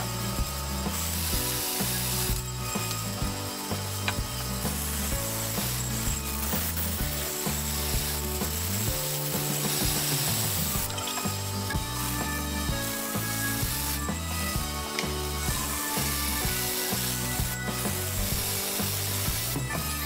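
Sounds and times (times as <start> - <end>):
bandsaw cutting wood: 0.0 - 20.0.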